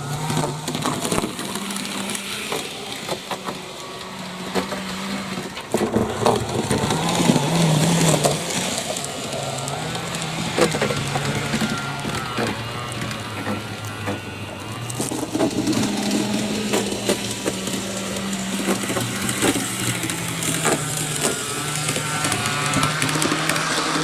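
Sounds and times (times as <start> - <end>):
model train clicks and rattles: 0.0 - 24.0
model train motor hum: 0.0 - 24.0.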